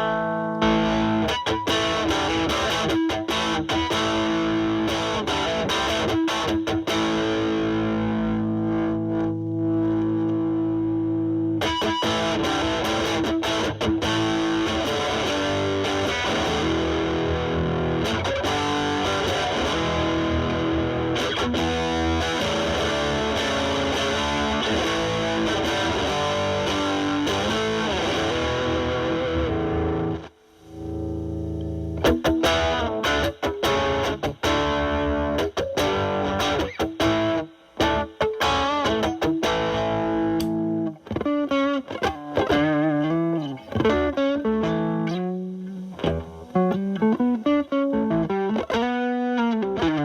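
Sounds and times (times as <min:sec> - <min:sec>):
distorted electric guitar: 0:00.0 - 0:50.0.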